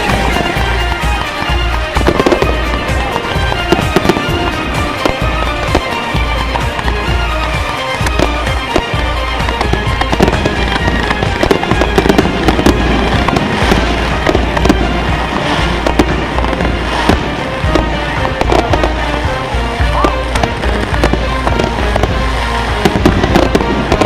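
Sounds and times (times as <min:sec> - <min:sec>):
deep rumble: 0:00.0 - 0:24.0
fireworks banging and crackling: 0:00.0 - 0:24.0.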